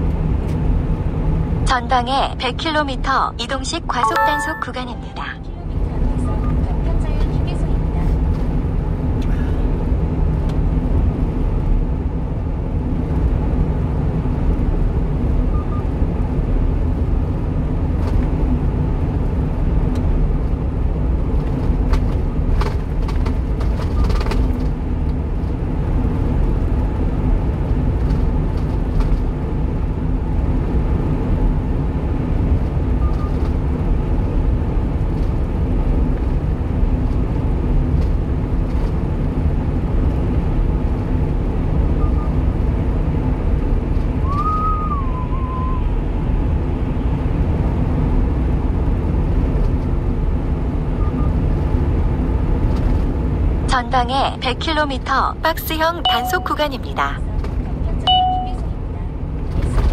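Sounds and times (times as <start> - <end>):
truck engine and tyre noise: 0.0 - 3.7, 5.4 - 59.9.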